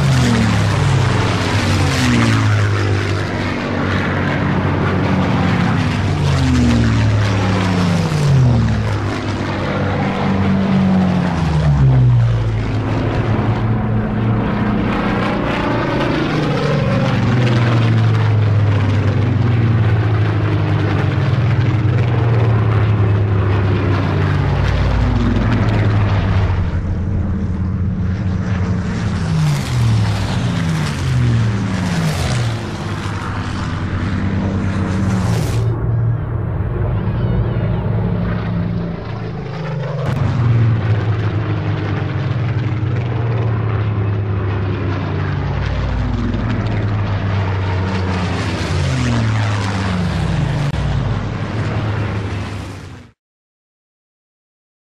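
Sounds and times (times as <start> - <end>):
propeller aircraft flying overhead: 0.0 - 53.2.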